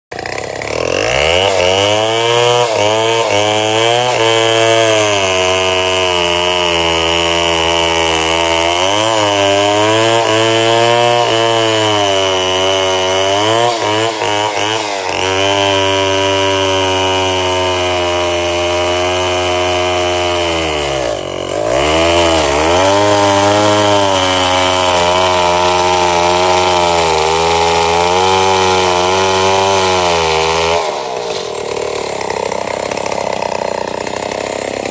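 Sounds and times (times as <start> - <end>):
chainsaw cutting into tree: 0.1 - 34.9.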